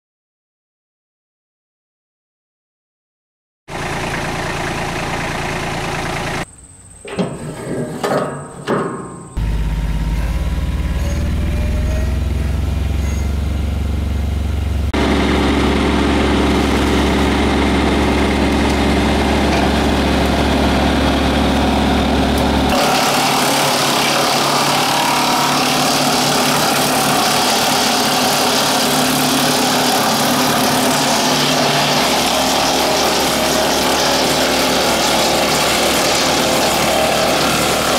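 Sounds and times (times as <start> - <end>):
tractor engine running: 3.7 - 37.9.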